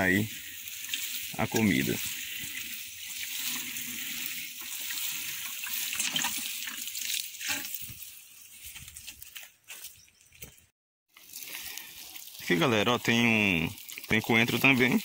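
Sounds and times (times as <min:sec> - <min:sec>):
watering can showering water: 0:00.0 - 0:09.3, 0:11.1 - 0:15.0.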